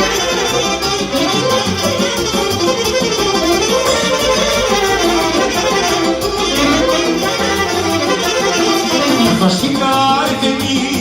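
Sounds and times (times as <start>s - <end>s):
instrumental folk-pop music: 0.0s - 11.0s.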